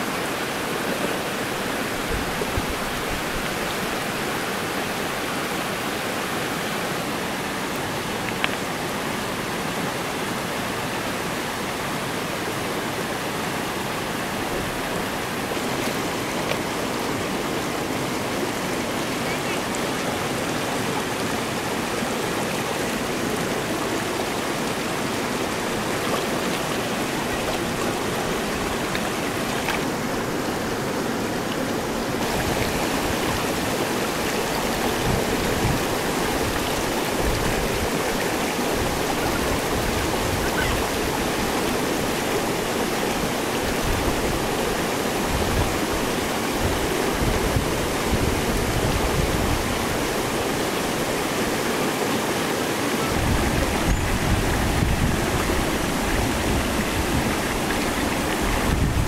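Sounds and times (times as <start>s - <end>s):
river rushing over stones: 0.0s - 59.0s.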